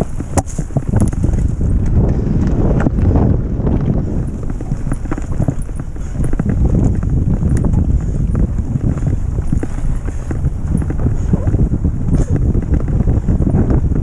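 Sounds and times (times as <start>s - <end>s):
bike clicks and rattles: 0.0s - 11.5s
wind rushing on microphone: 0.0s - 14.0s.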